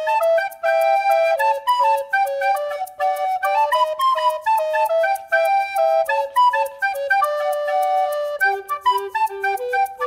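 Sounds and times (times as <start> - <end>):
quick background melody: 0.0 - 10.0.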